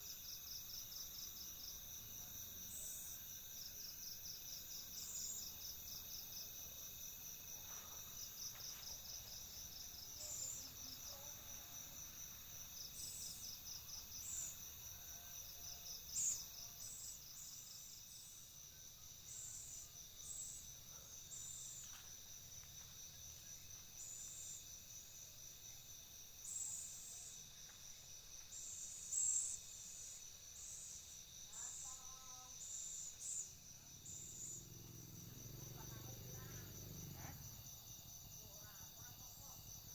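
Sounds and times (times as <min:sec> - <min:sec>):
crickets trilling: 0:00.2 - 0:39.9.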